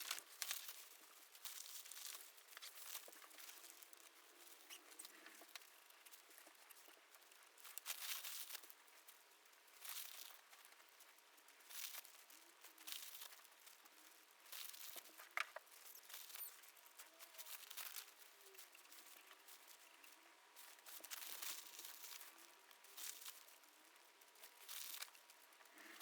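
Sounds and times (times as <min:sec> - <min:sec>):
material rustling and crinkling: 0:00.0 - 0:26.0.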